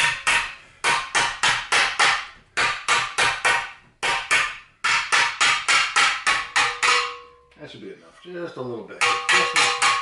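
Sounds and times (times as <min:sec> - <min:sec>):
hammer tapping on sheet metal: 0:00.0 - 0:07.5, 0:09.0 - 0:10.0.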